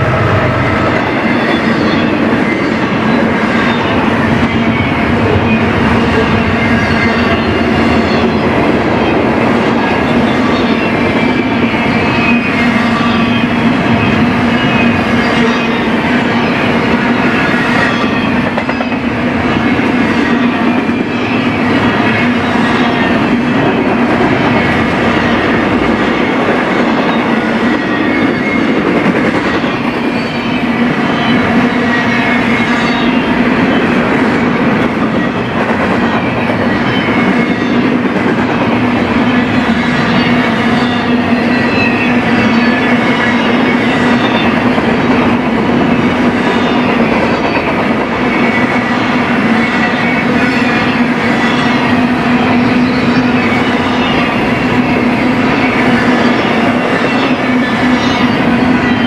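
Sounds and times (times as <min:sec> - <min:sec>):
steel wheels clicking on rails: 0:00.0 - 0:59.0.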